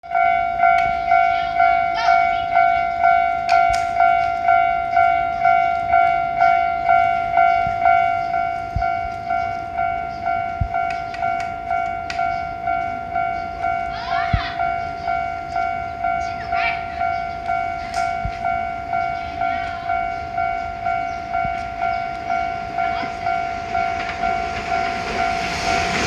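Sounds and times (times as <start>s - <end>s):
railroad crossing alarm ringing: 0.0s - 26.0s.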